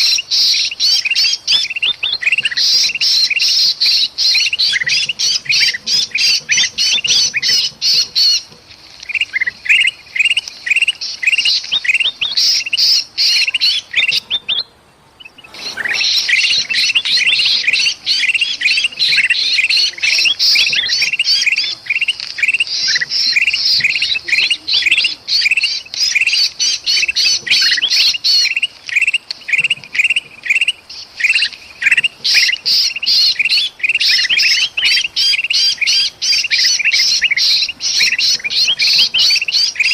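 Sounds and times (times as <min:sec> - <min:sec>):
bulbuls harsh alarm chatter: 0:00.0 - 0:39.9.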